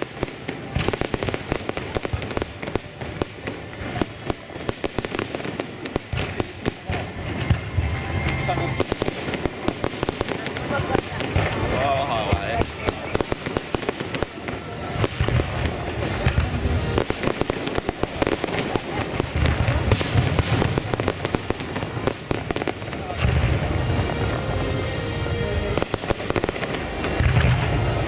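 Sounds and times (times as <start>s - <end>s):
fireworks booms: 0.0s - 28.0s
fireworks crackling: 0.0s - 28.0s.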